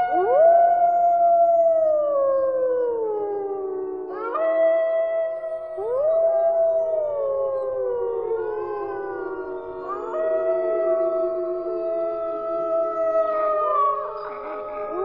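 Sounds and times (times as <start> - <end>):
dogs howling: 0.0 - 15.0.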